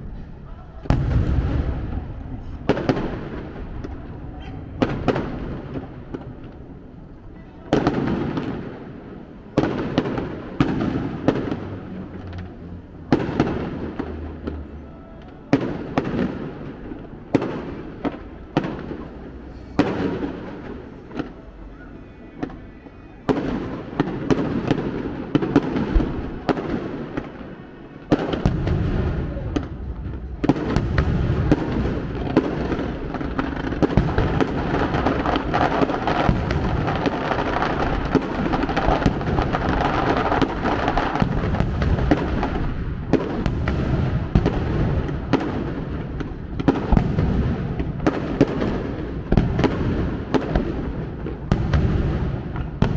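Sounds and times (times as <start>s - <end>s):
firework crackle: 0.0s - 52.9s.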